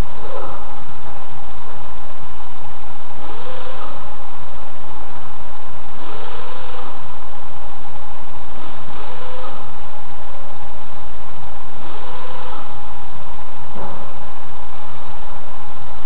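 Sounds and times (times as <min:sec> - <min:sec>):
loud steady noise: 0:00.0 - 0:16.0.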